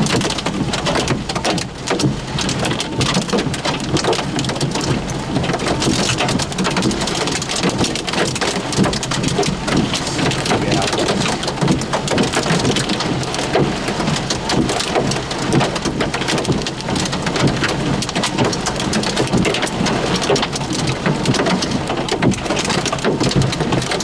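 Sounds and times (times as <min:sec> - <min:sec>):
heavy rain on a vehicle roof: 0:00.0 - 0:24.0.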